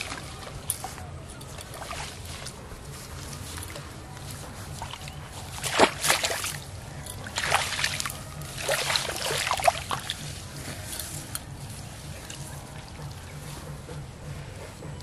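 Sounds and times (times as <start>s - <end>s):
muddy water splashing: 0.0s - 13.4s.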